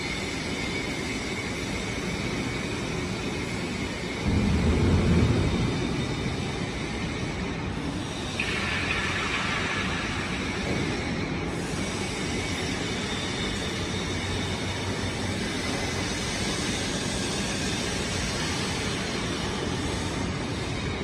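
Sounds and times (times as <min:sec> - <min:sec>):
factory machinery noise: 0:00.0 - 0:21.0.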